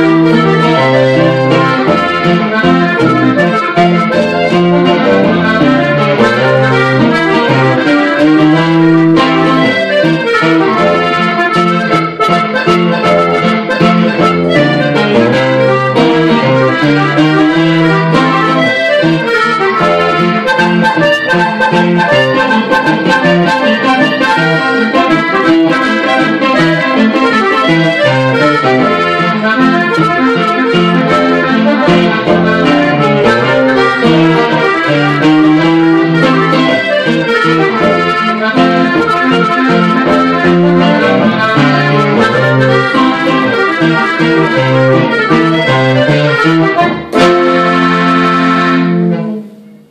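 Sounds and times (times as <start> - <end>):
acoustic guitar strumming: 0.0 - 49.9
button accordion melody: 0.0 - 49.9.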